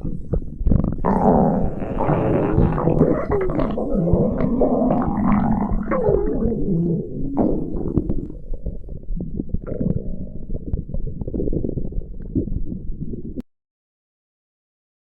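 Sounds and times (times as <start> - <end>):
stomach growling: 0.0 - 13.4.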